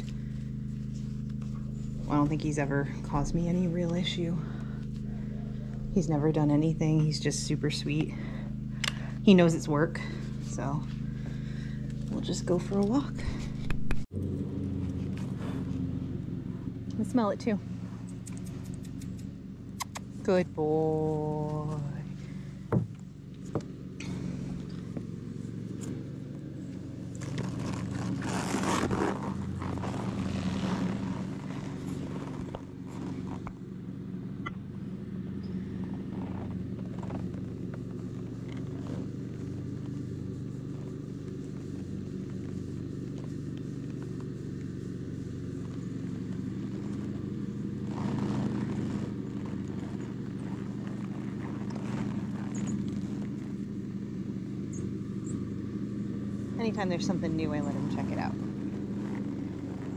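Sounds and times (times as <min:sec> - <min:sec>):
lawn mower engine humming: 0:00.0 - 0:59.9.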